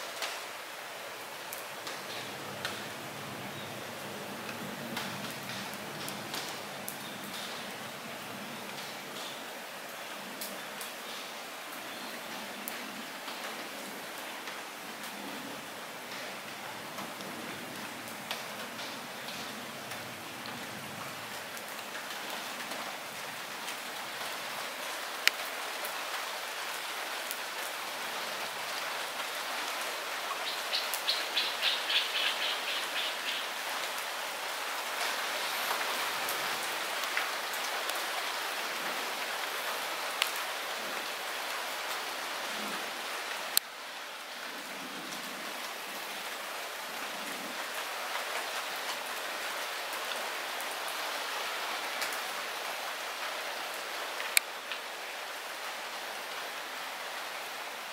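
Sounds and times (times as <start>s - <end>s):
light rain falling: 0.0s - 57.9s.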